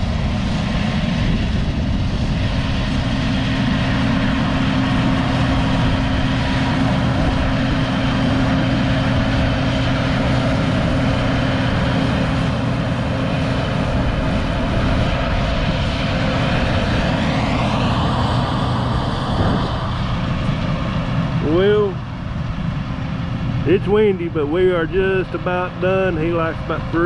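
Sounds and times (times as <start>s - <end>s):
heavy vehicle engine humming: 0.0s - 27.0s
high rising whine: 0.0s - 27.0s
wind or road noise: 0.0s - 27.0s.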